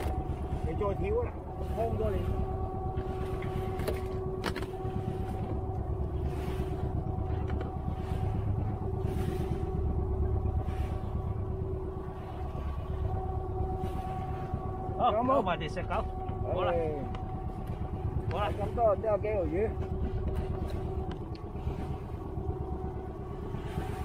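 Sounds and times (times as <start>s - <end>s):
boat engine rumbling: 0.0s - 24.0s
steady hum: 0.0s - 24.0s.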